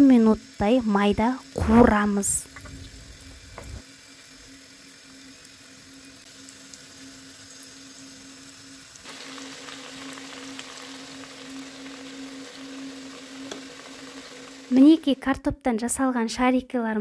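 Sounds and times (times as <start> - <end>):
oil bubbling and sizzling: 0.0 - 15.4.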